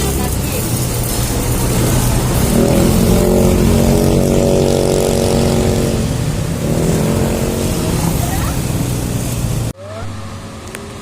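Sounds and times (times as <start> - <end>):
bus engine revving: 0.0 - 11.0.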